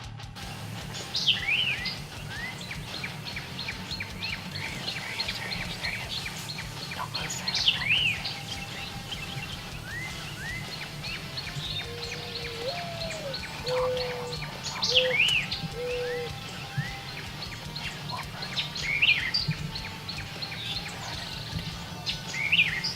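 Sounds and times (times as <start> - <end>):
songbirds chirping and singing: 0.0 - 22.9.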